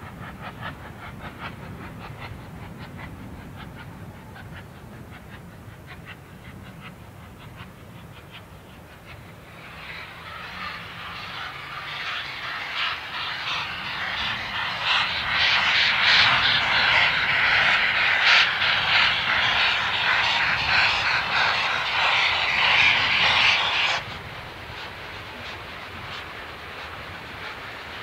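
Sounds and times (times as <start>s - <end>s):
railway locomotive working: 0.0s - 28.0s.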